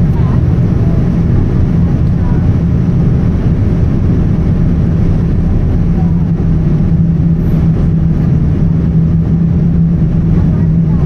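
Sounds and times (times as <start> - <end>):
constant low hum: 0.0 - 11.0
jet engine and airflow roar: 0.0 - 11.0.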